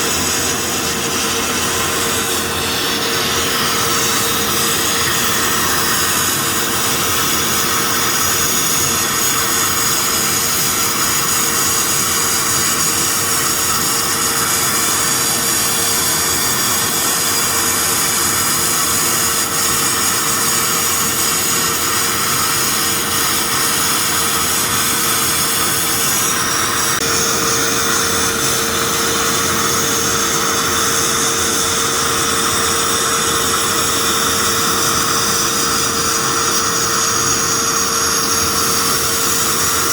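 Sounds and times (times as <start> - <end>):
machine hum: 0.0 - 39.9
sandblasting hiss: 0.0 - 39.9.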